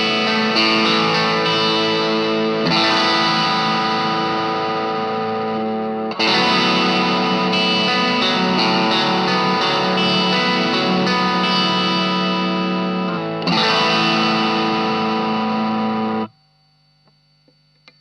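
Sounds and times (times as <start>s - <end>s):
overdriven electric guitar chords: 0.0s - 16.3s.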